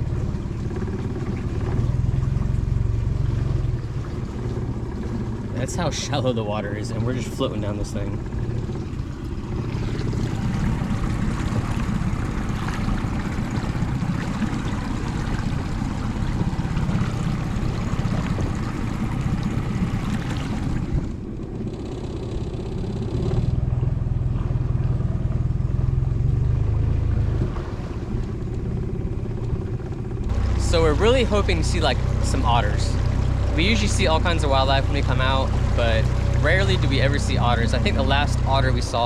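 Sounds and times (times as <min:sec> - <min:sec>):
small outboard motor running: 0:00.0 - 0:39.0.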